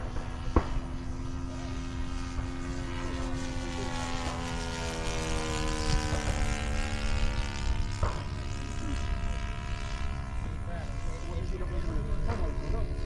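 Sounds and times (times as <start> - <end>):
model airplane engine drone: 0.0 - 13.0.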